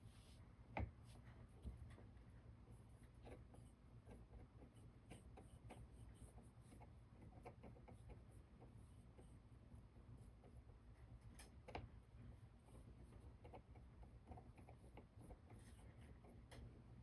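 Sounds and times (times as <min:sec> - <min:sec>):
low steady hum: 0:00.0 - 0:17.0
paintbrush scratching and tapping: 0:00.8 - 0:17.0.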